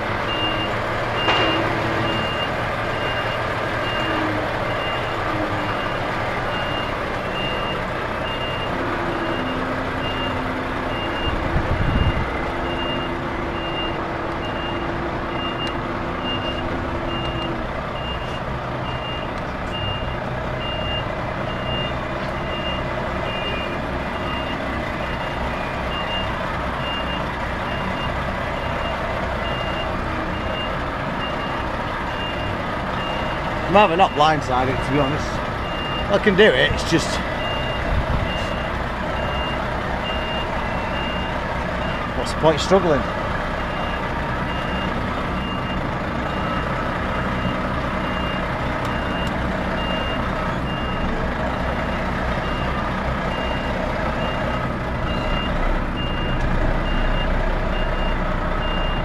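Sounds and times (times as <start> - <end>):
truck engine running: 0.0 - 59.0
reversing alarm beeping: 0.2 - 59.0.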